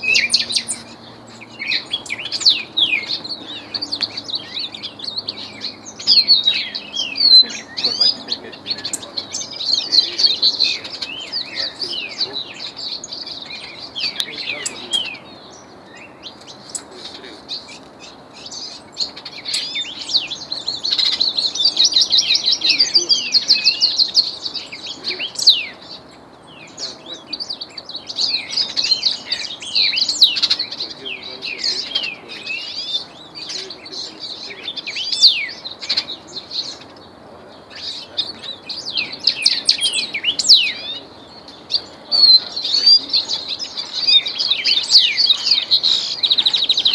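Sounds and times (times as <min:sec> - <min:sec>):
songbirds warbling: 0:00.0 - 0:46.9.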